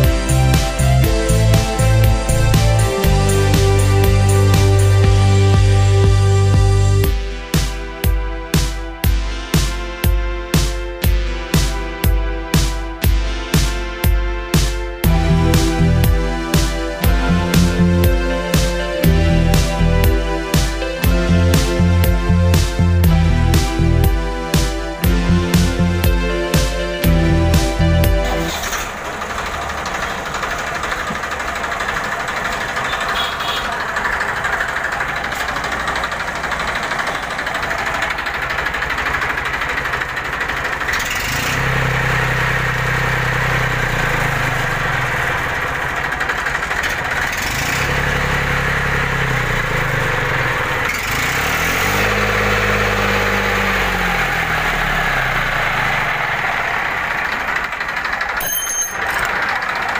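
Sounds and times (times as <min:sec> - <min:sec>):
tractor diesel engine idling and revving: 0:00.0 - 0:59.9.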